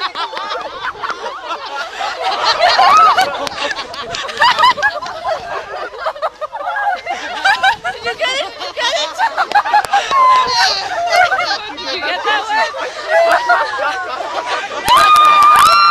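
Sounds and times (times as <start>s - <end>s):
crowd of students laughing and chattering: 0.0s - 15.9s.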